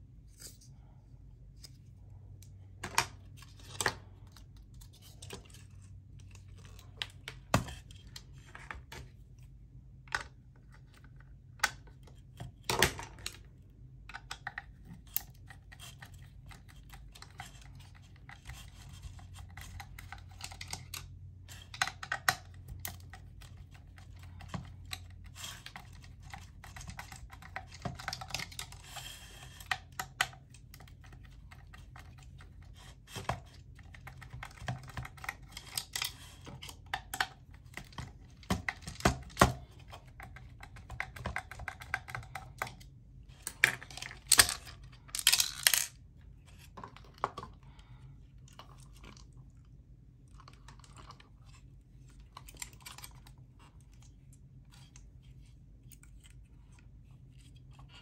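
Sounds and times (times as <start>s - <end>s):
plastic parts clicking and rattling: 10.0s - 49.6s, 50.2s - 58.0s.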